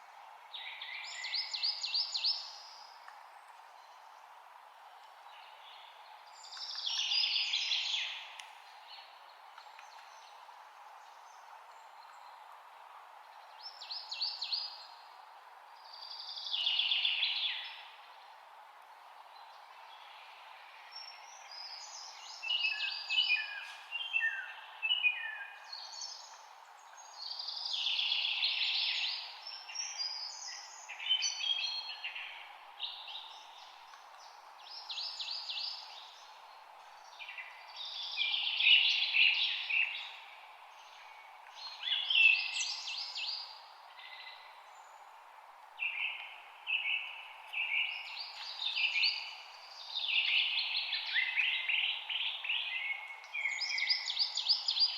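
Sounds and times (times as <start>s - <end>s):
faint steady hiss: 0.0s - 54.9s
songbirds chirping and trilling: 0.0s - 54.9s.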